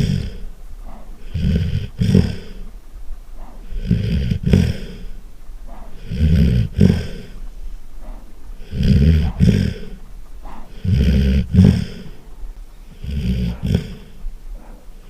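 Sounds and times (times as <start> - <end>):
dog snoring loudly: 0.0 - 2.7, 3.4 - 7.4, 8.0 - 12.2, 12.9 - 15.0.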